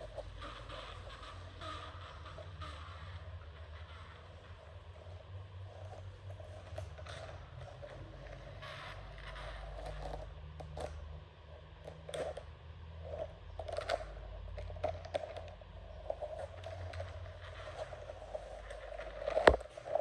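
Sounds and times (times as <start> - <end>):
toy vehicle electric motor running: 0.0 - 11.0, 13.0 - 20.0
toys clicking and scraping: 0.0 - 20.0.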